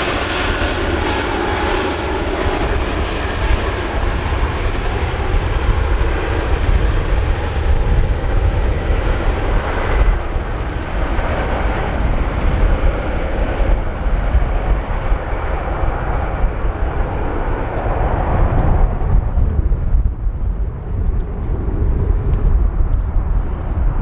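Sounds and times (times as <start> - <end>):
jet engines roaring: 0.0 - 24.0
wind buffeting microphone: 0.0 - 24.0.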